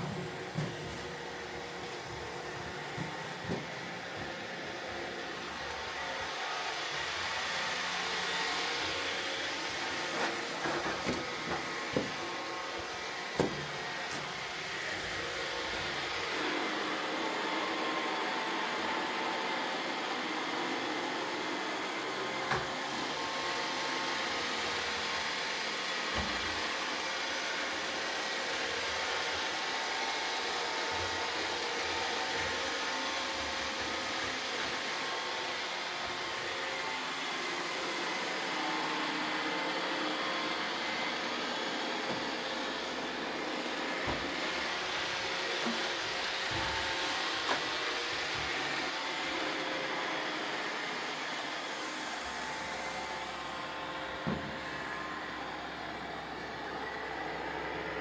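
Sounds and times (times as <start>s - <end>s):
robot vacuum whirring: 0.0s - 58.0s.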